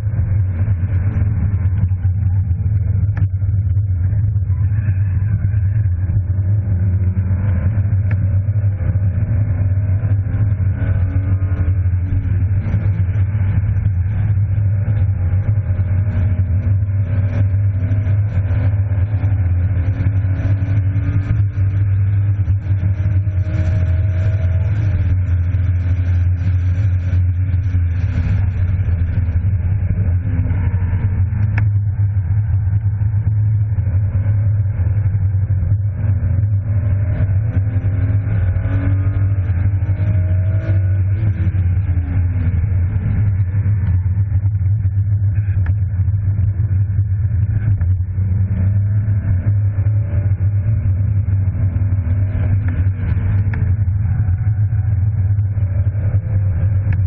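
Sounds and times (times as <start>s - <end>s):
car engine revving: 0.0s - 57.0s
low cabin rumble: 0.0s - 57.0s.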